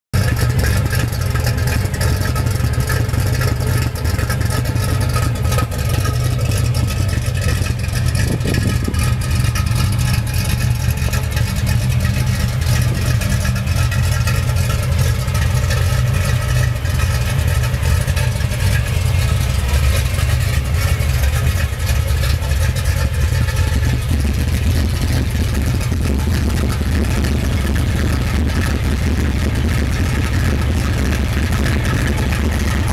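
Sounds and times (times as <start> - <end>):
car engine idling roughly: 0.1 - 32.9.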